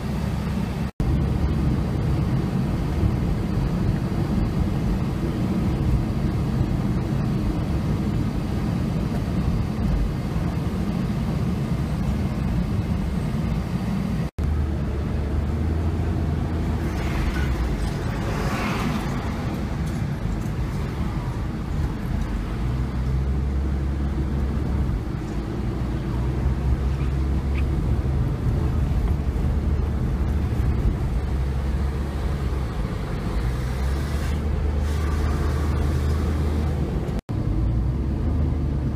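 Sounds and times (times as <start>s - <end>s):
rushing noise: 0.0s - 38.4s
car engine and tyre rumble: 0.0s - 38.9s.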